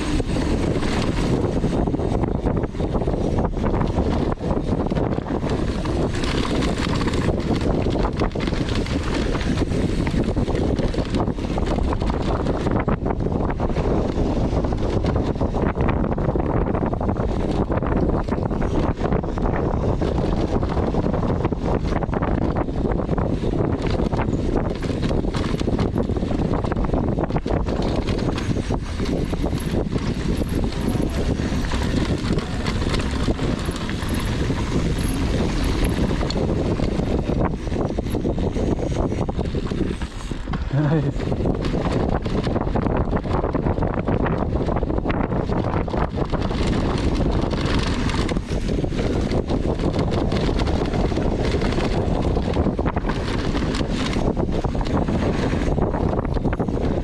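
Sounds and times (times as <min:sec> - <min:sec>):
bike knocking and rattling: 0:00.0 - 0:57.0
tyres rumbling on dirt: 0:00.0 - 0:57.0
wind rushing over microphone: 0:00.0 - 0:57.0.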